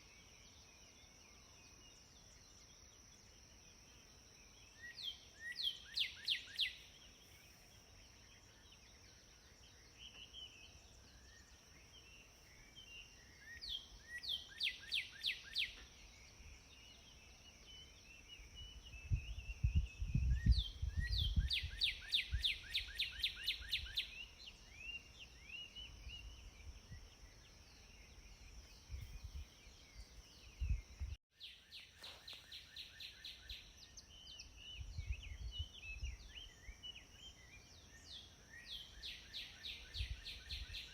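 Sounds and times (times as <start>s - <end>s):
soft bird chirps: 0.0s - 40.9s
songbirds whistling: 4.7s - 7.4s, 9.6s - 40.9s.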